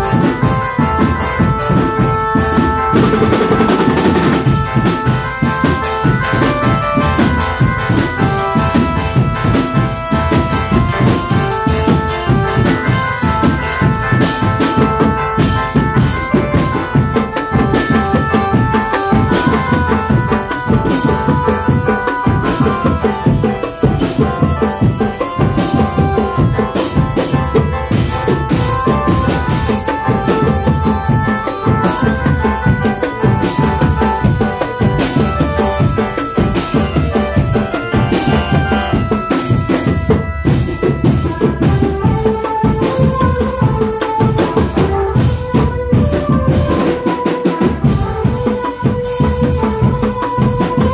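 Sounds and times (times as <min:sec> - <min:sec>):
drumming: 0:00.0 - 0:50.9
sustained melody: 0:00.0 - 0:50.9.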